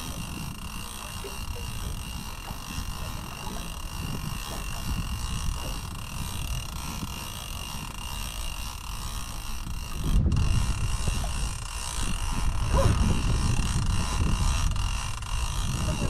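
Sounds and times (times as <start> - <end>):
fishing reel winding: 0.0 - 16.0
water around boat: 0.0 - 16.0
wind rumble on microphone: 0.0 - 16.0.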